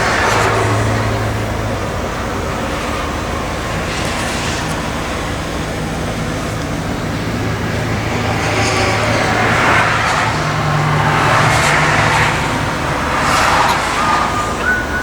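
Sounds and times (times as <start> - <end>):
road noise rushing: 0.0 - 15.0
vehicle engine hum: 0.0 - 15.0.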